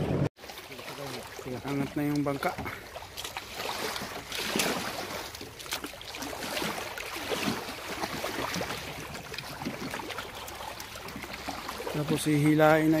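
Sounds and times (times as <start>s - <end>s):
water lapping against boat hull: 0.0s - 13.0s
small knocks and splashes: 0.4s - 13.0s.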